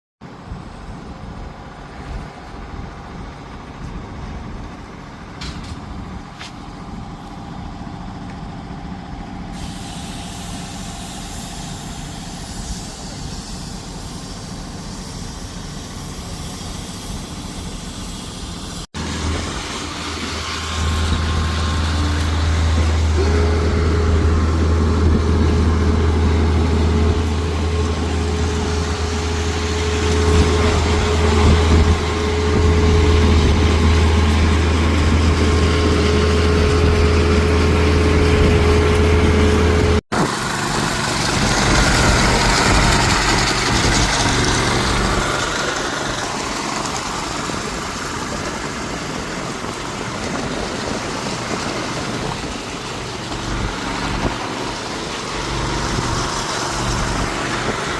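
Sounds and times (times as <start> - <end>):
engine running steadily: 0.2 - 57.9
rough hissy machine sound: 4.8 - 57.9.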